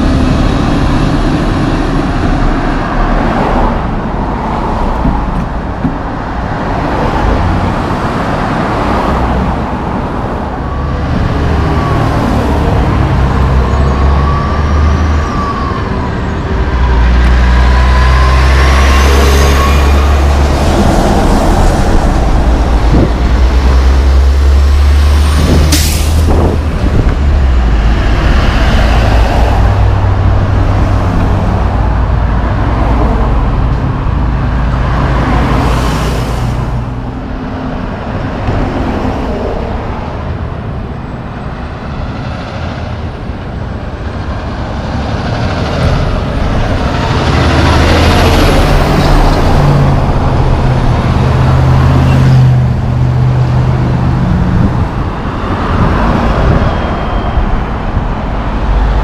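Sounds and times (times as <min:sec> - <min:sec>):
car passing: 0:00.0 - 0:59.0
truck engine drone: 0:00.0 - 0:59.0.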